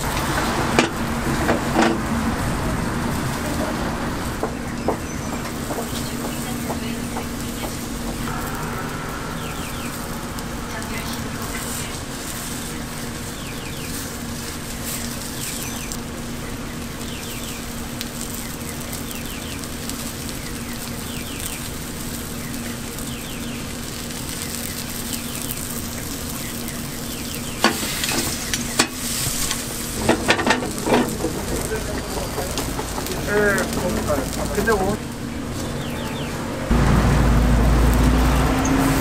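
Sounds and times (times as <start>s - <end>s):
batter sizzling in metal molds: 0.0s - 35.7s
steady low hum: 0.0s - 35.9s.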